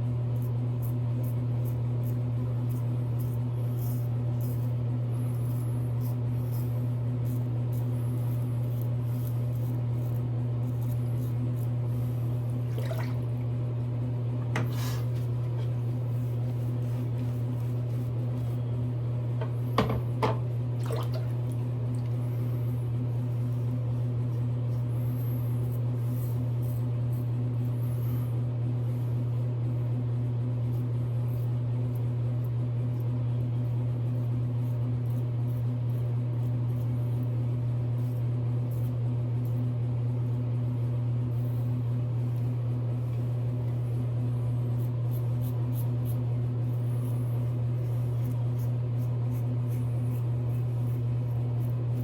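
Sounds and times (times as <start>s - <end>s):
steady low hum: 0.0s - 52.0s
razor scraping through lather: 0.1s - 12.6s, 14.6s - 19.0s, 22.1s - 29.4s, 30.0s - 52.0s.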